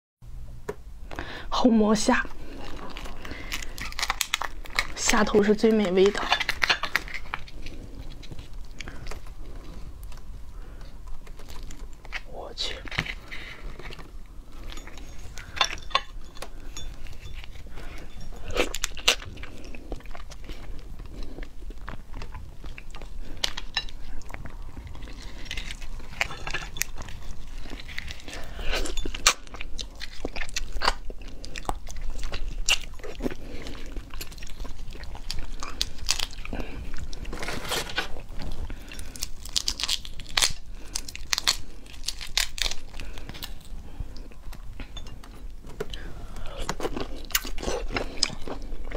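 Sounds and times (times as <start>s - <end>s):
prawn shells cracking and crunching: 2.1s - 48.9s
chewing: 2.2s - 12.3s, 12.9s - 48.9s.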